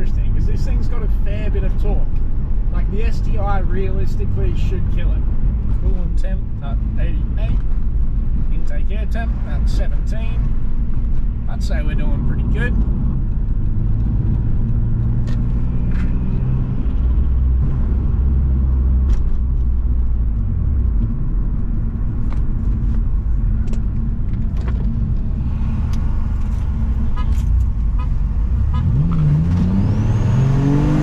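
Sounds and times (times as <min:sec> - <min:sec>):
car engine cruising: 0:00.0 - 0:31.0.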